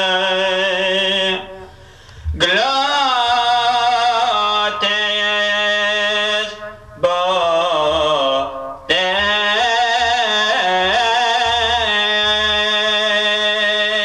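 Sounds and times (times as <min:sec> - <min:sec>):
man chanting a hymn: 0:00.0 - 0:14.0
steady held drone: 0:00.0 - 0:14.0.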